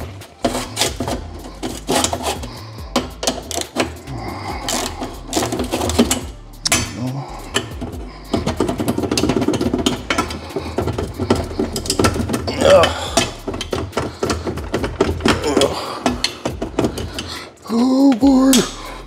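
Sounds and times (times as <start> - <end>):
fast clicks: 0.0 - 18.7
hand tools clanking on metal: 0.0 - 19.0.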